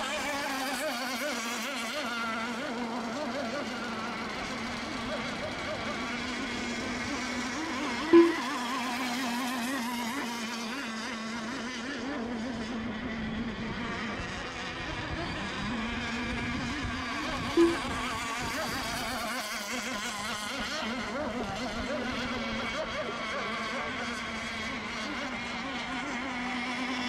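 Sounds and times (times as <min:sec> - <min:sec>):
racing boat engines buzzing: 0:00.0 - 0:27.0.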